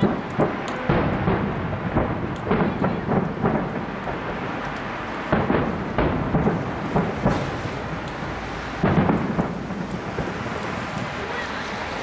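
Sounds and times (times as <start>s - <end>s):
continuous rumble: 0.0s - 12.0s
firework shells bursting: 0.0s - 12.0s.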